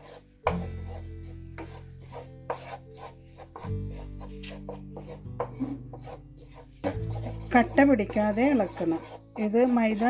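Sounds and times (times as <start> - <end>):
roux sizzling: 0.0 - 10.0
spoon scraping a pan: 0.0 - 10.0.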